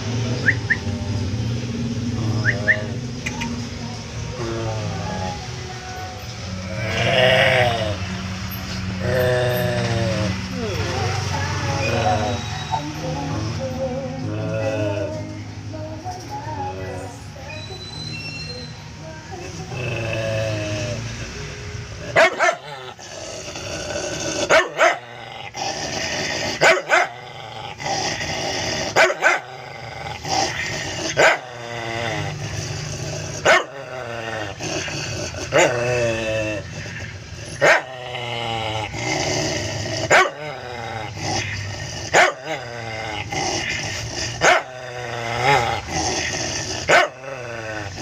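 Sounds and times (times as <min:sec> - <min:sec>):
dog growling: 0:00.0 - 0:15.3, 0:19.3 - 0:48.0.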